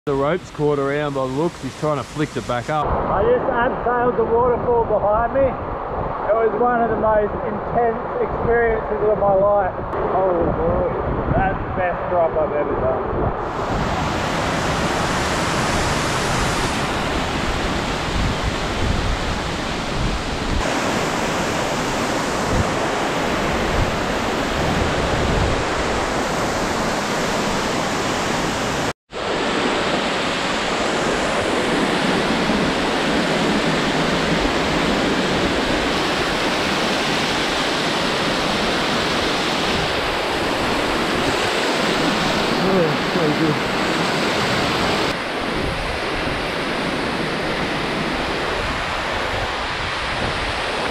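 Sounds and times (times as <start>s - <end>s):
waterfall rushing: 0.2s - 3.8s, 13.4s - 50.9s.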